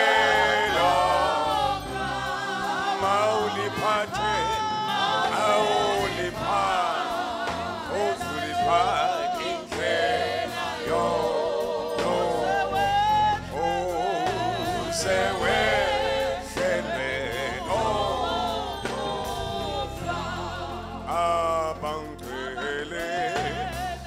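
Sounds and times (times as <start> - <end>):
group singing gospel song: 0.0 - 24.0
live band playing: 0.0 - 24.0.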